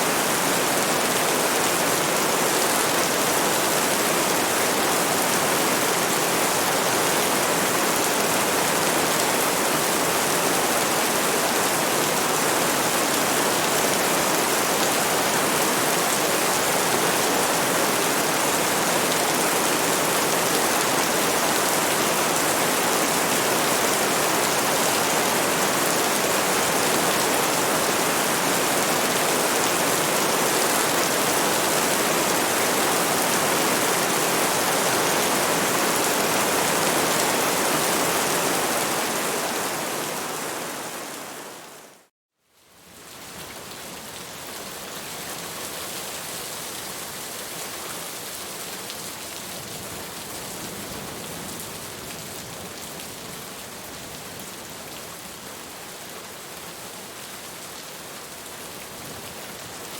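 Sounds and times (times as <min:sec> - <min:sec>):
dense rain: 0:00.0 - 0:59.9.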